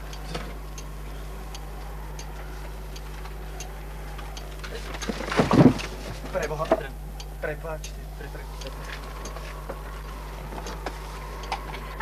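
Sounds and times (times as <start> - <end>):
slow steady ticking: 0.0 - 5.2, 5.8 - 12.0
low hum: 0.0 - 12.0.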